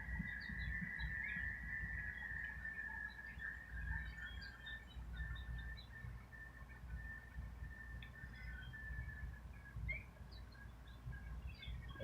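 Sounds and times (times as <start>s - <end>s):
small bird chirps: 0.0s - 12.0s.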